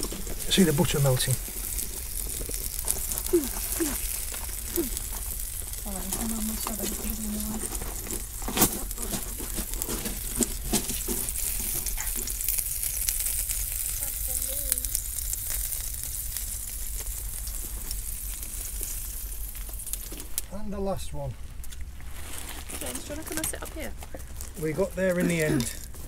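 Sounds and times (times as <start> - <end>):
pops and crackles: 0.0 - 20.6, 21.3 - 26.0
butter bubbling: 0.0 - 26.0
scallops sizzling on coals: 0.0 - 26.0.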